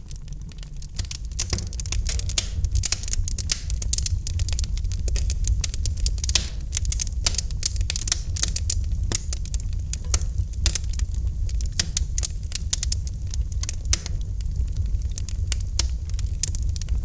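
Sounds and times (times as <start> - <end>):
campfire crackling: 0.0 - 17.0
low rumble: 0.0 - 17.0.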